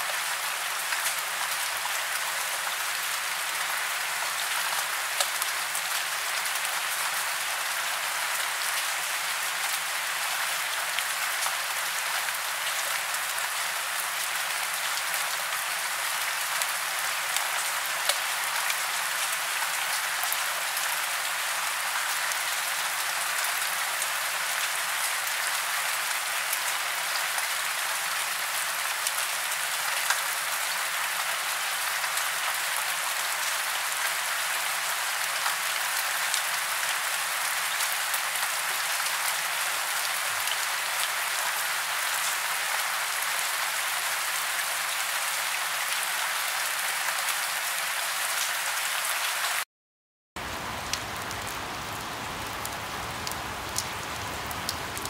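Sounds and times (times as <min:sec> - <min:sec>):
steady rain falling: 0:00.0 - 0:49.6, 0:50.4 - 0:55.0.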